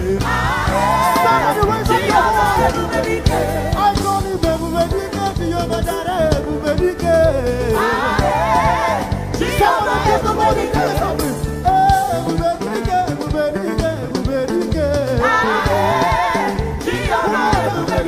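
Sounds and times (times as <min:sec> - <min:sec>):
band with drum and bass beat: 0:00.0 - 0:18.0
gospel singing voices: 0:00.0 - 0:18.0.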